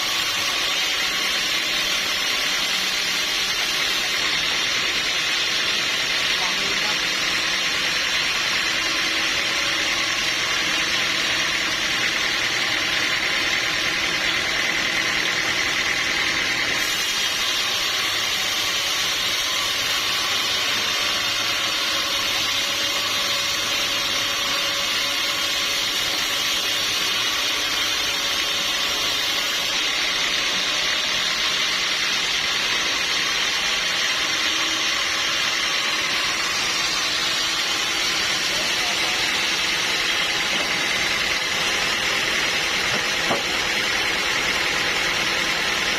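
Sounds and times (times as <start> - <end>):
sawmill machinery sawing log: 0.0 - 45.9.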